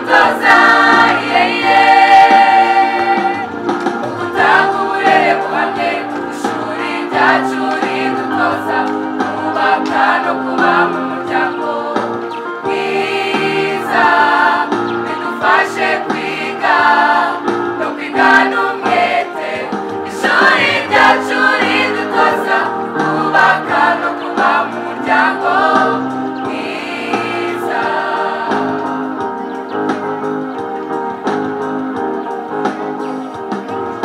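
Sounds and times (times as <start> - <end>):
choir singing in parts: 0.0 - 29.9
electronic keyboard chords: 0.0 - 34.0.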